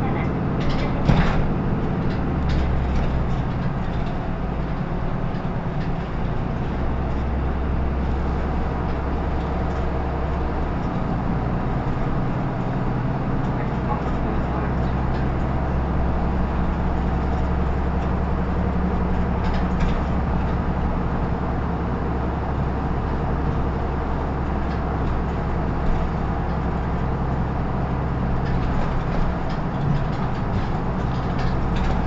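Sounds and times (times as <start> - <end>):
bus diesel engine running: 0.0 - 32.0
road and body noise: 0.0 - 32.0.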